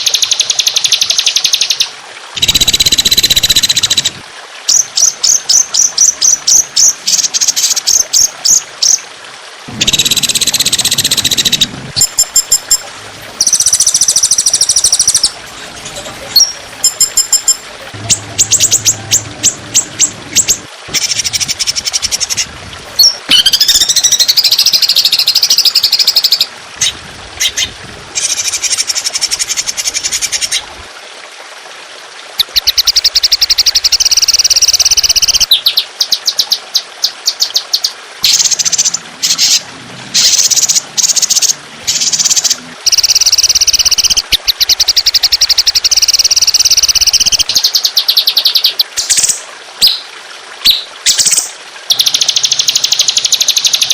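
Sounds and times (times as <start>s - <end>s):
songbird calls and trills: 0.0s - 9.0s, 9.8s - 12.8s, 13.4s - 22.4s, 23.0s - 30.6s, 32.4s - 39.6s, 40.2s - 50.0s, 50.6s - 53.9s.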